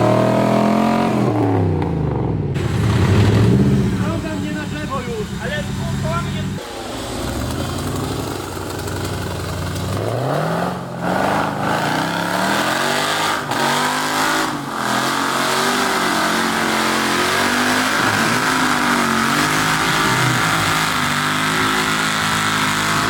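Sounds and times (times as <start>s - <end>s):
vehicle engine revving hard: 0.0s - 23.0s.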